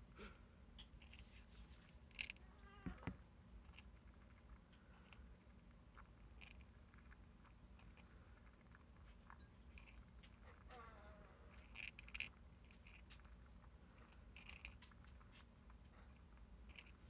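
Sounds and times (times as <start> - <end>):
hamster clicking food pellets: 0.7 - 17.0.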